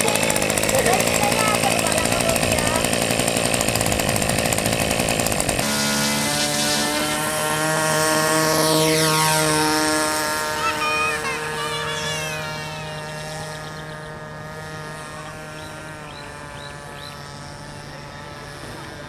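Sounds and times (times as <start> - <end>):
model airplane motor buzzing: 0.0 - 19.0.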